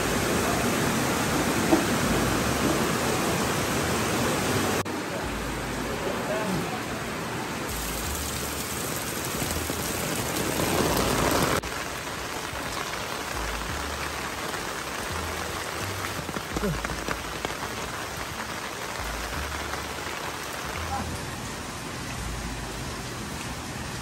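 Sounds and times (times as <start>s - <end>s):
rain on foliage: 0.0s - 24.0s.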